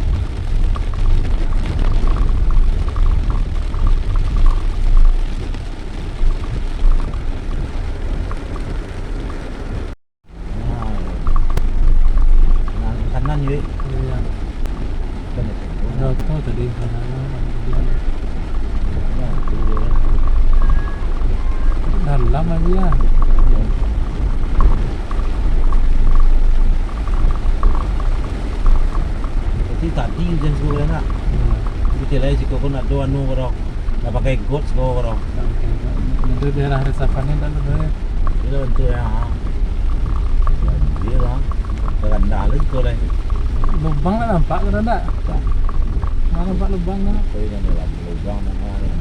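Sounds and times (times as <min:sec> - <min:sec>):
car road and engine rumble: 0:00.0 - 0:49.0
faint light ticking: 0:00.0 - 0:49.0
noisy hiss: 0:08.0 - 0:49.0.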